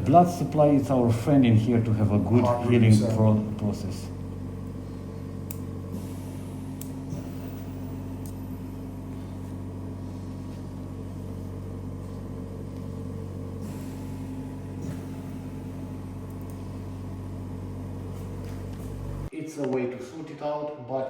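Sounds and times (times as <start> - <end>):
equipment low hum: 0.0 - 19.8.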